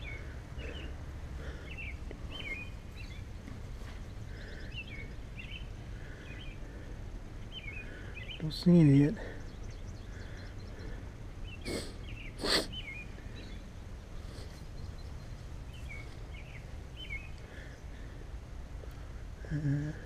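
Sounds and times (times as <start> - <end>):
low outdoor rumble: 0.0 - 20.0
small birds chirping: 0.0 - 20.0.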